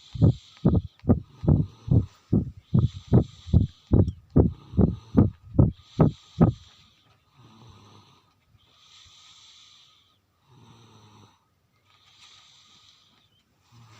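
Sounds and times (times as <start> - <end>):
person snoring: 0.0 - 11.4.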